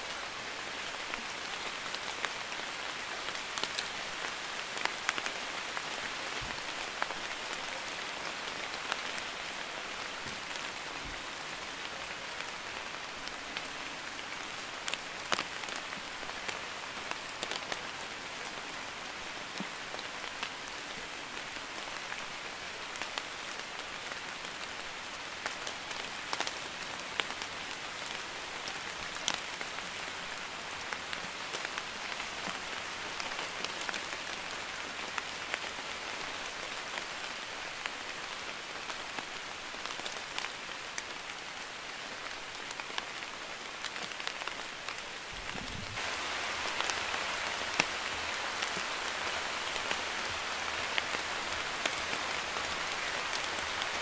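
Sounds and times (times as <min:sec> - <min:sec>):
light rain hissing: 0:00.0 - 0:54.0.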